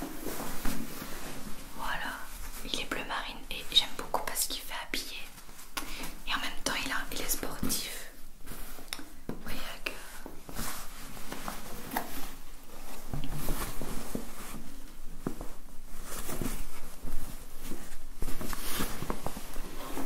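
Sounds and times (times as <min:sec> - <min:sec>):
cloth rustling against microphone: 0:00.0 - 0:20.0.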